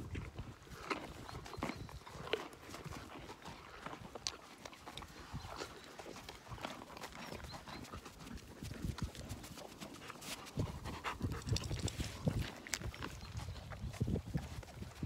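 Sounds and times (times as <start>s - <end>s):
animals crunching carrots: 0.0s - 15.0s.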